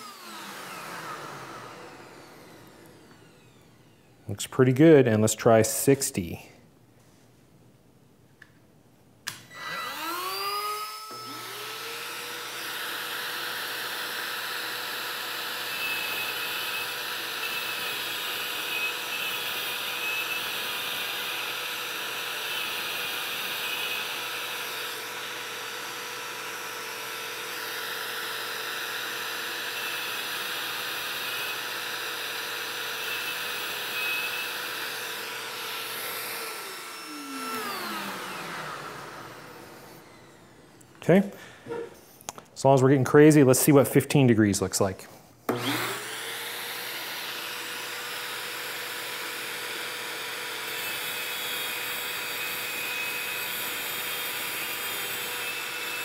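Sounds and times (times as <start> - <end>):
rotary tool grinding whine: 0.0 - 4.2, 9.5 - 41.0, 45.5 - 56.0
shop vacuum running: 0.0 - 5.0, 9.3 - 42.5, 45.0 - 56.0.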